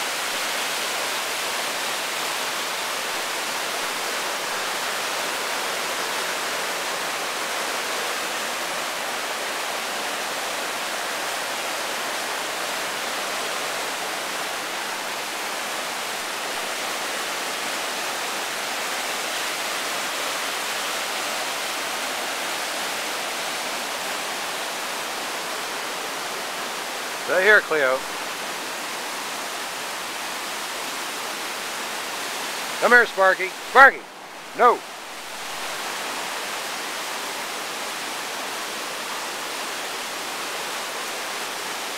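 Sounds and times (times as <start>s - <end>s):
river rapids rushing over rocks: 0.0s - 41.9s.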